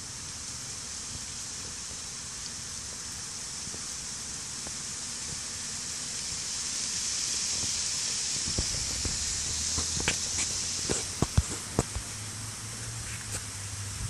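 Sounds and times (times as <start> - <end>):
high-pitched hiss: 0.0 - 14.0
bees buzzing: 0.7 - 13.3.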